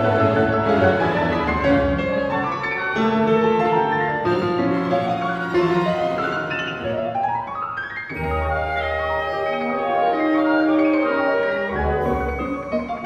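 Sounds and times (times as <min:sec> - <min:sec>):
piano and orchestra playing: 0:00.0 - 0:13.0.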